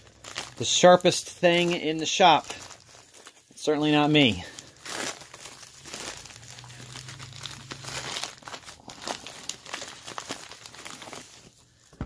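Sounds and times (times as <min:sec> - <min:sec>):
plastic mailer crinkling: 0:00.0 - 0:12.0.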